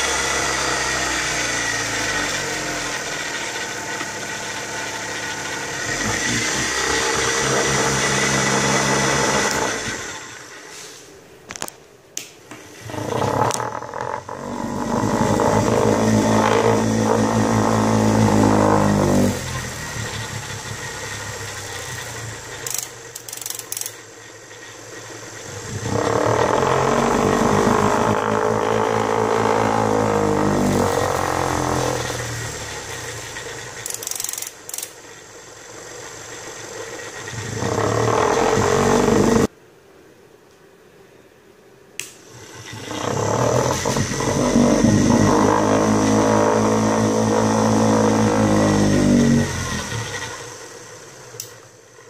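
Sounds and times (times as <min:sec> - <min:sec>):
small motor whirring: 0:00.0 - 0:10.6, 0:12.8 - 0:39.5, 0:42.3 - 0:52.0.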